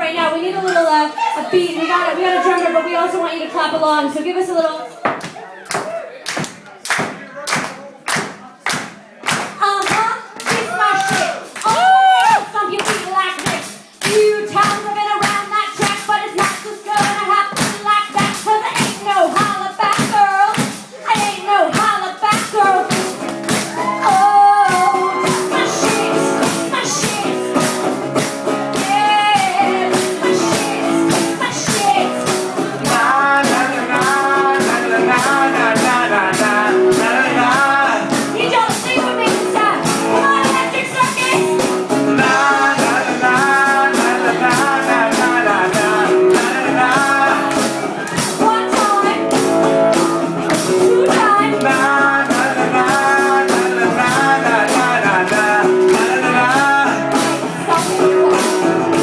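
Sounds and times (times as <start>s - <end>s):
driving beat: 5.1s - 59.0s
guitar: 9.6s - 59.0s
person singing: 9.6s - 59.0s.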